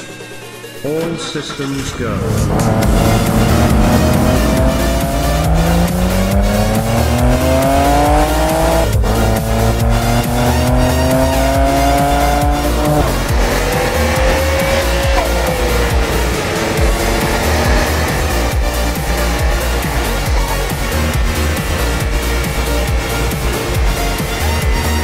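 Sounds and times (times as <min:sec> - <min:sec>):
music with steady beat: 0:00.0 - 0:25.0
sports car engine accelerating: 0:01.6 - 0:25.0.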